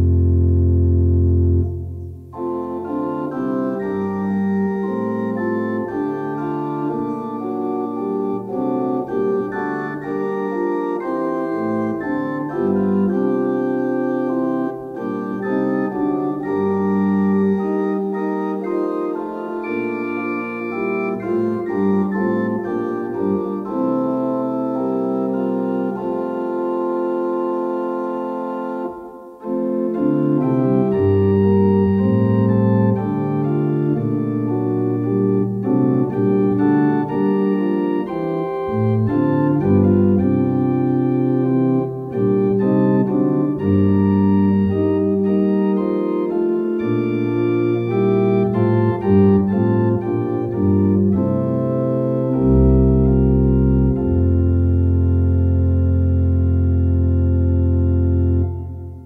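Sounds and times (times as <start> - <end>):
organ playing a hymn: 0.0 - 59.0.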